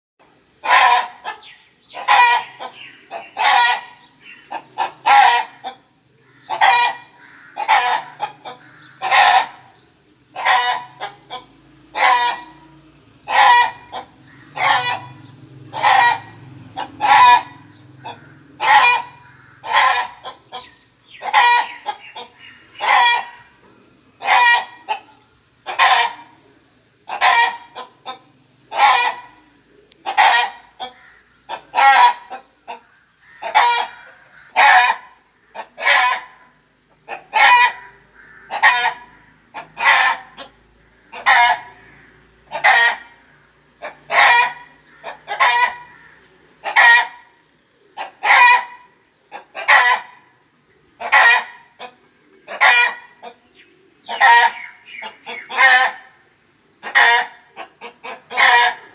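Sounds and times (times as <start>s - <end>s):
chickens clucking: 0.2s - 58.9s.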